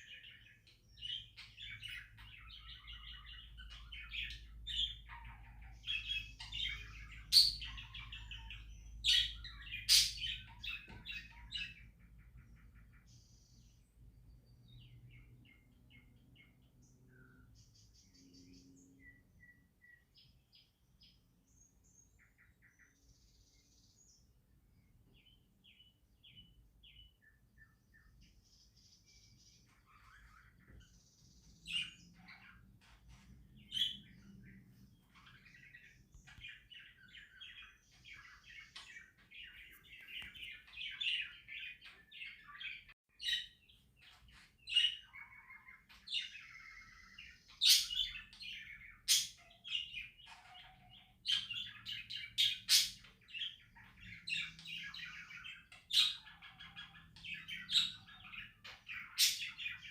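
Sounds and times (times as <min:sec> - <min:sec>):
budgerigars chirping and warbling: 0:00.0 - 0:24.4, 0:25.0 - 0:59.9.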